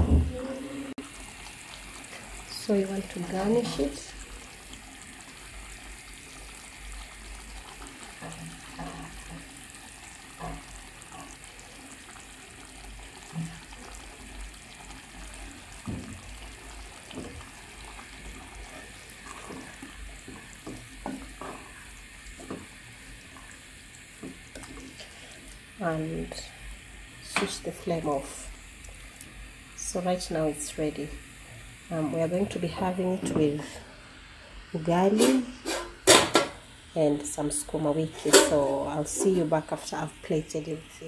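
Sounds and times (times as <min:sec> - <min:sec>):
stew simmering and sizzling: 0:00.0 - 0:41.0.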